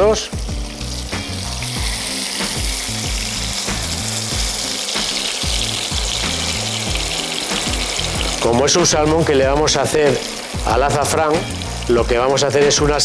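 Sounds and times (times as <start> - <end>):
background music with a beat: 0.0 - 13.0
fish sizzling in a frying pan: 0.0 - 13.0.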